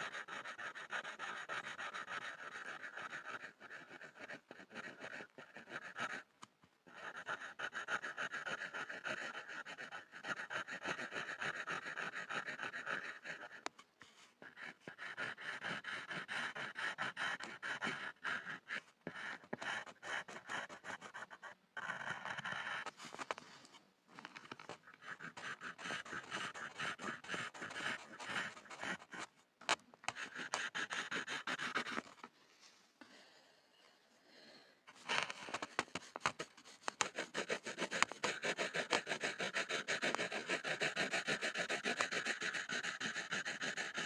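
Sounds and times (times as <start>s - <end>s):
pencil scribbling on a board: 0.0s - 23.6s, 24.2s - 32.3s, 35.0s - 44.0s.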